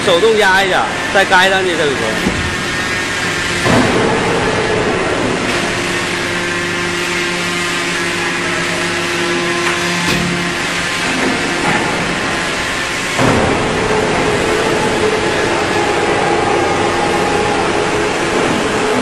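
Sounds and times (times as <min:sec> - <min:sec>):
hydraulic pump humming: 0:00.0 - 0:19.0
steady whine: 0:00.0 - 0:19.0.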